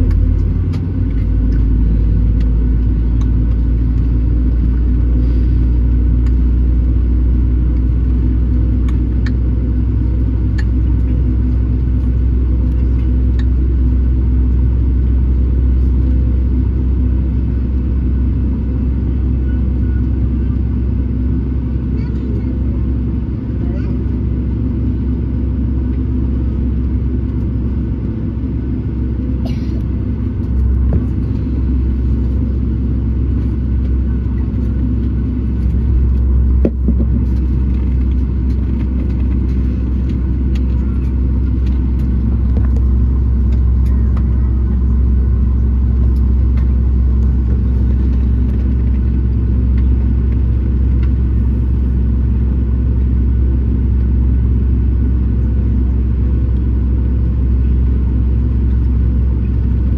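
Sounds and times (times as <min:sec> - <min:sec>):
airplane engines rumbling: 0:00.0 - 0:59.9.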